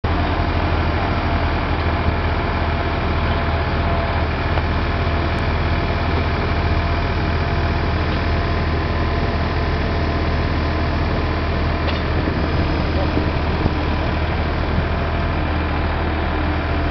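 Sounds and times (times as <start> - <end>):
diesel tractor engine humming: 0.0 - 16.9.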